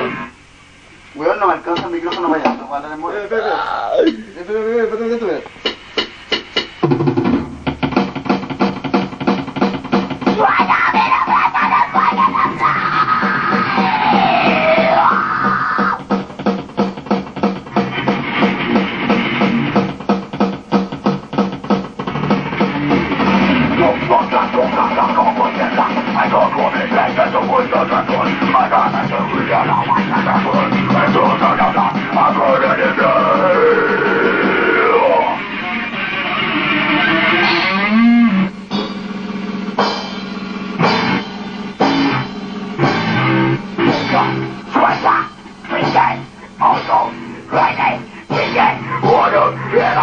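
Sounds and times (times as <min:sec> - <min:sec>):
drum kit beat: 0:01.7 - 0:02.8, 0:03.6 - 0:50.0
band hitting chords: 0:05.4 - 0:50.0
electric guitar: 0:06.8 - 0:50.0.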